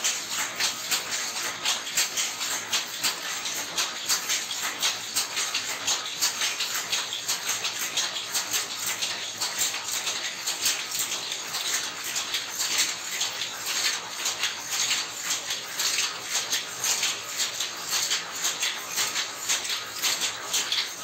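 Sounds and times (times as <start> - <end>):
loom clacking rhythmically: 0.0 - 21.0.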